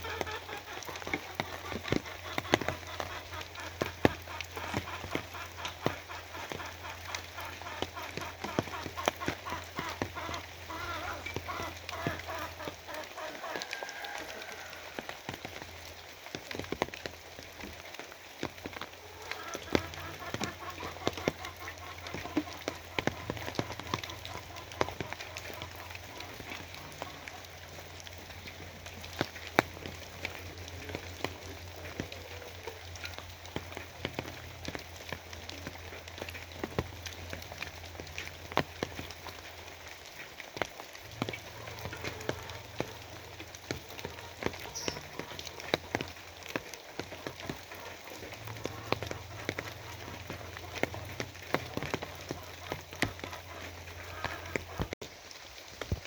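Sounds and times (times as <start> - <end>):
rain drops striking a surface: 0.0 - 56.0.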